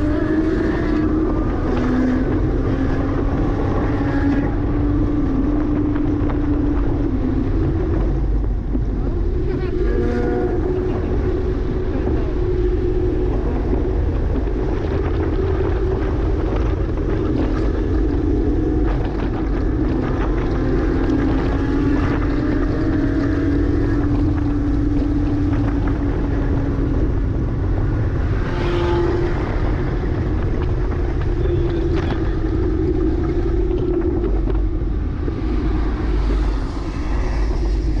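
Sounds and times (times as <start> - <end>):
wind noise: 0.0 - 38.0.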